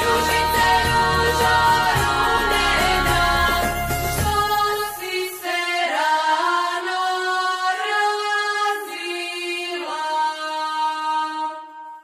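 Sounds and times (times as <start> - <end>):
chant-like singing: 0.0 - 12.0.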